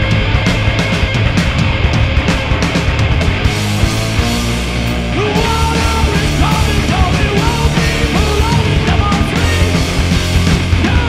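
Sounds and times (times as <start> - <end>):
drums and crash cymbals: 0.0 - 11.0
rock band playing punk rock: 0.0 - 11.0.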